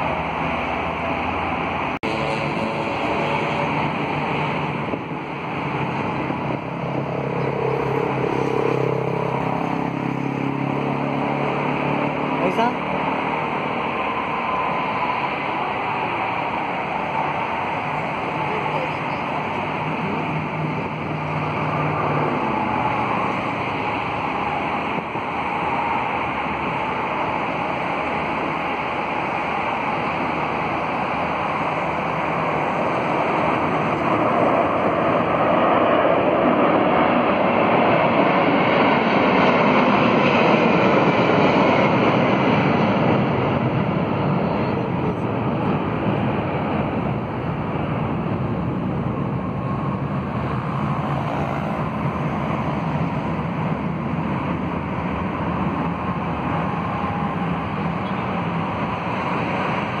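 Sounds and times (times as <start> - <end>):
jet engines roaring overhead: 0.0 - 60.0.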